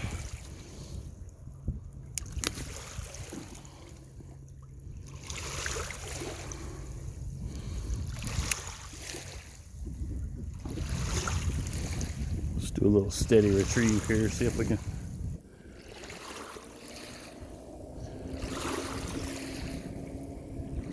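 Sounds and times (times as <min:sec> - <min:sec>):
waves lapping at shore: 0:00.0 - 0:01.4, 0:02.1 - 0:20.9
wind buffeting microphone: 0:00.0 - 0:20.9.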